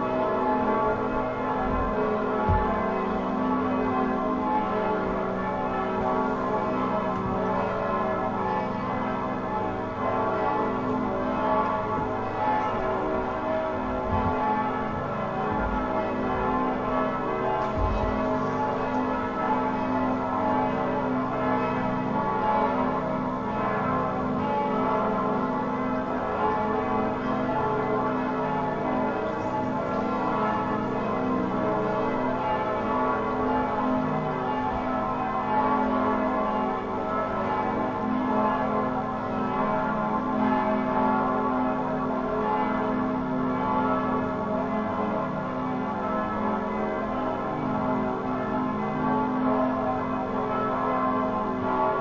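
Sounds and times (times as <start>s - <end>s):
bells ringing: 0.0s - 52.0s.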